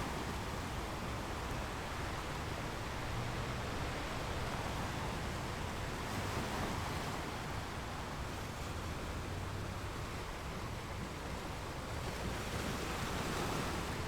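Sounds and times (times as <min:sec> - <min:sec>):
ocean surf on a beach: 0:00.0 - 0:14.0.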